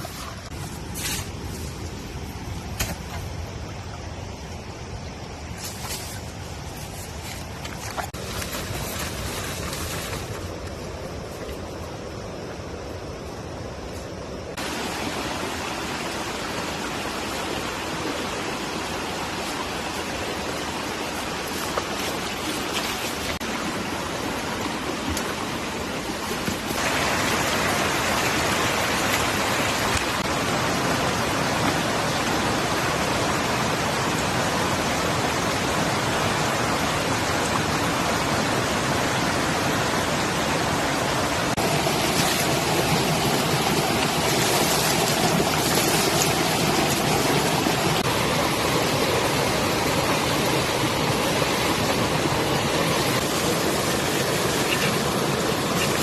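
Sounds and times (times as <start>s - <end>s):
rushing water: 0.0s - 12.6s, 14.4s - 56.0s.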